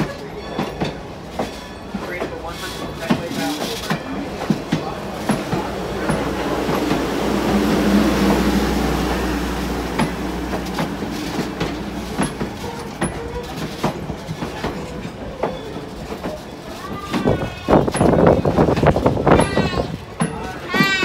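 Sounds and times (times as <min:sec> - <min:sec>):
train low rumble: 0:00.0 - 0:21.0
train wheels clicking over rail joints: 0:00.0 - 0:21.0.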